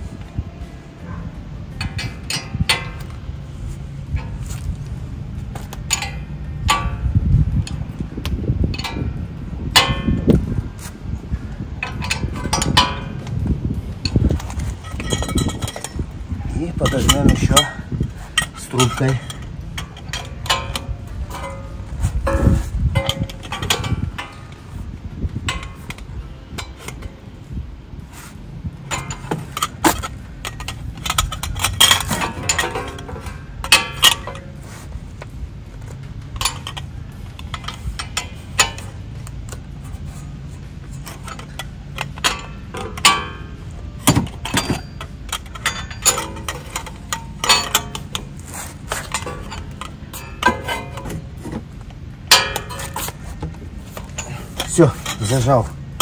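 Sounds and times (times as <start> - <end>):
metal tools clinking: 1.0 - 7.9, 8.7 - 10.9, 11.5 - 27.4, 28.2 - 56.0.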